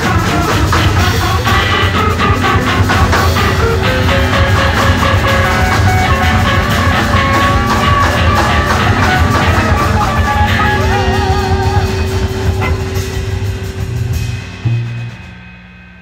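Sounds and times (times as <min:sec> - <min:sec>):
wavering guitar line: 0:00.0 - 0:15.4
noise rock band playing: 0:00.0 - 0:16.0.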